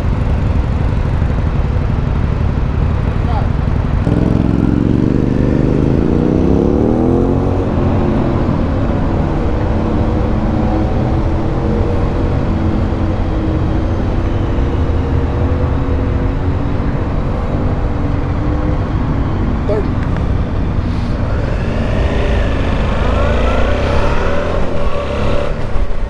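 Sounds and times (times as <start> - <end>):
motorcycle engine revving: 0.0 - 17.0, 19.6 - 26.0.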